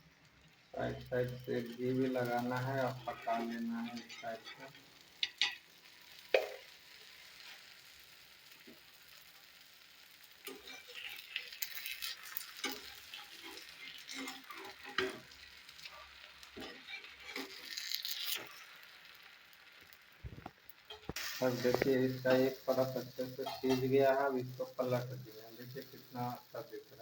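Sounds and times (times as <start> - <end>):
batter sizzling on a griddle: 0.0 - 27.0
utensil scraping and tapping griddle: 1.0 - 5.6, 6.2 - 7.7, 10.4 - 26.9.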